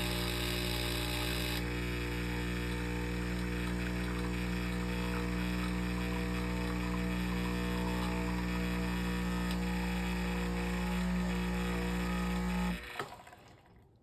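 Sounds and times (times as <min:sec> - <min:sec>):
espresso machine humming: 0:00.0 - 0:12.9.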